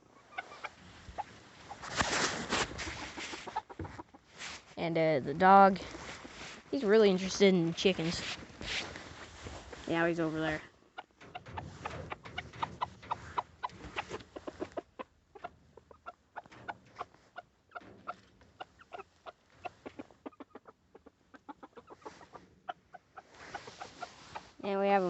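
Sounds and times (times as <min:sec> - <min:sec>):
chickens clucking: 0:00.0 - 0:04.4, 0:08.1 - 0:24.9.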